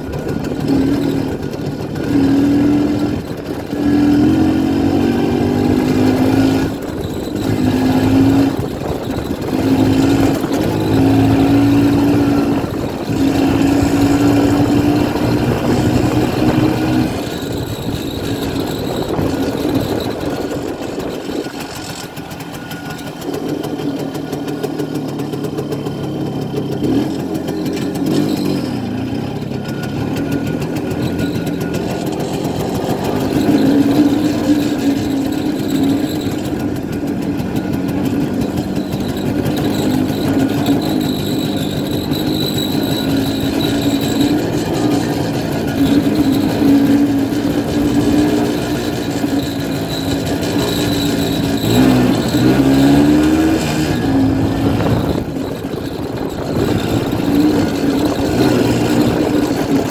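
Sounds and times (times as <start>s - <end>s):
motorcycle two-stroke engine revving: 0.0s - 59.9s.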